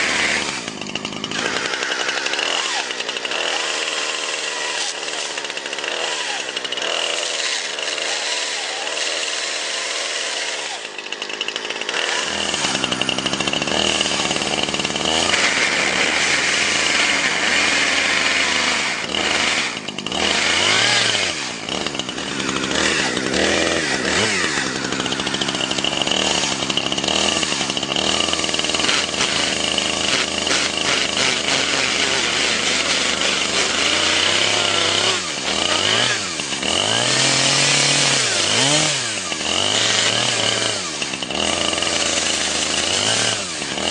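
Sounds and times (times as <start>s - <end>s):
chainsaw revving and cutting: 0.0s - 43.9s.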